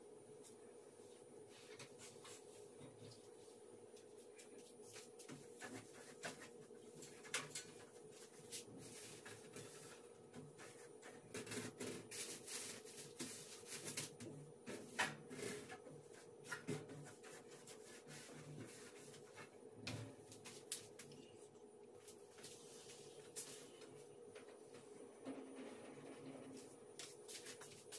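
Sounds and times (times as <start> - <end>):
cloth wiping oven: 0.3 - 21.0, 22.0 - 27.9.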